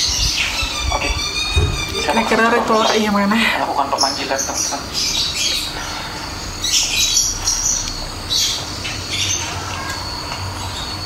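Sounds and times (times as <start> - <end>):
high chirping calls: 0.0 - 11.0.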